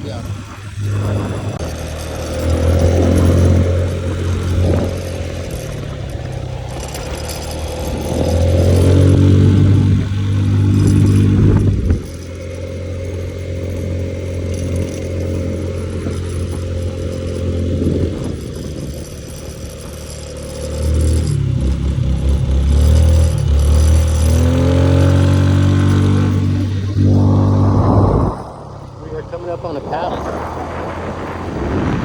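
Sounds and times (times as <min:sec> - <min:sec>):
moped engine running: 0:00.0 - 0:32.0.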